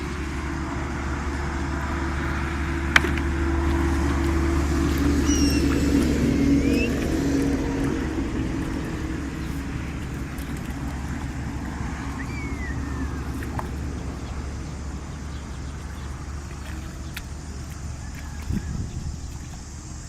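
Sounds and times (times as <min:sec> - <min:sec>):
motor engine running: 0:00.0 - 0:20.0.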